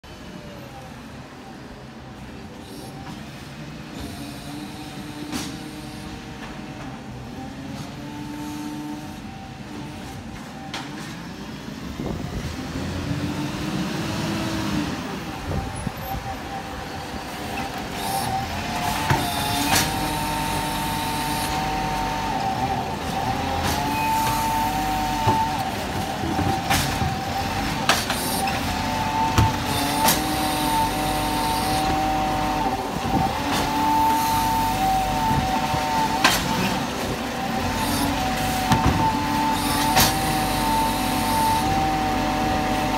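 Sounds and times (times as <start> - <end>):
garbage truck engine: 0.0 - 42.9.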